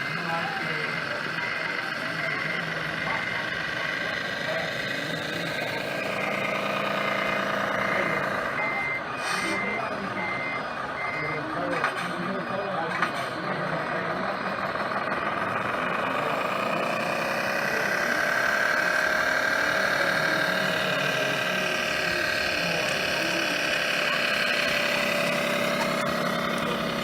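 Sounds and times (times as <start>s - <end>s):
model truck motor whine: 0.0s - 27.0s.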